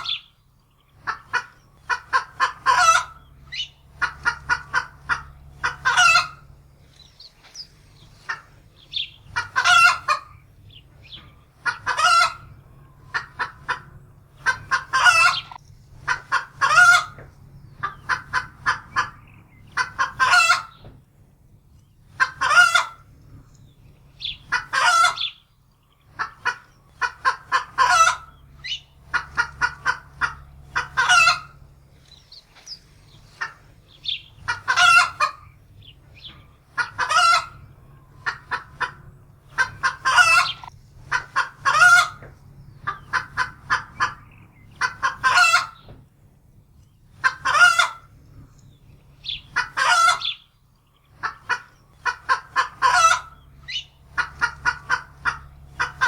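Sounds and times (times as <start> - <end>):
hen cackling in alarm: 0.0 - 6.6, 7.2 - 20.8, 22.1 - 23.1, 24.1 - 45.9, 47.1 - 48.2, 49.1 - 56.0.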